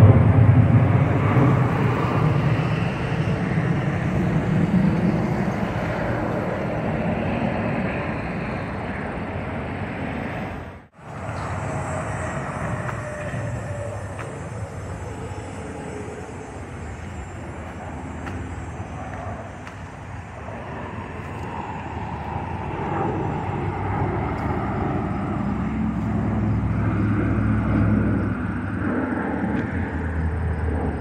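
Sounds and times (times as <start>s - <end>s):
airplane engines rumbling overhead: 0.0s - 31.0s.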